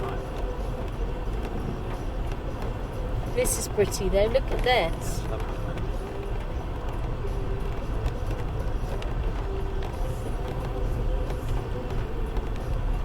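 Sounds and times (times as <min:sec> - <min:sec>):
light knocks from bumpy track: 0:00.0 - 0:13.0
low rumble of engine and tyres: 0:00.0 - 0:13.0.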